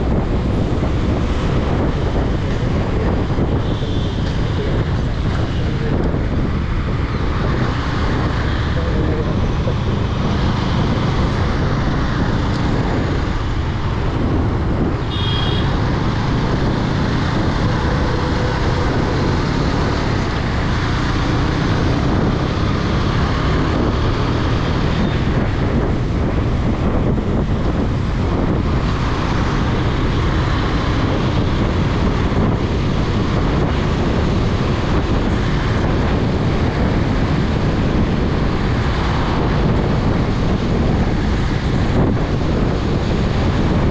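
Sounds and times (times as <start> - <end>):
motorcycle engine drone: 0.0 - 43.9
road noise: 0.0 - 43.9
wind rushing over microphone: 0.0 - 43.9.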